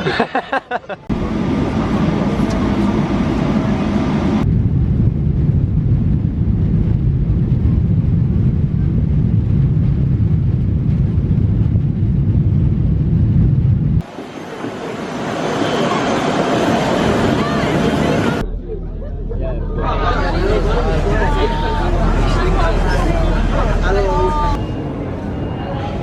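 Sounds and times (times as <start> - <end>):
vehicle rumble in motion: 1.0 - 26.0.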